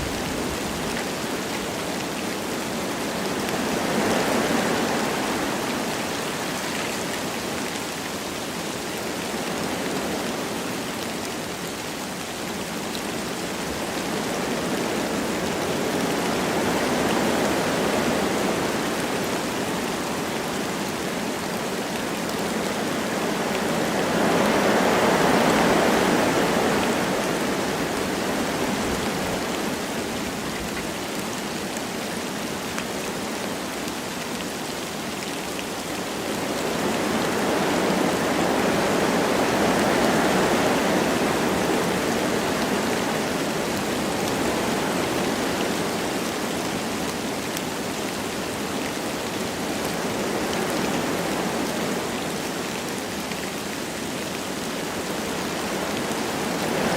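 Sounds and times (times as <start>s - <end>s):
light rain: 0.0s - 56.9s
wind blowing through trees: 0.0s - 56.9s.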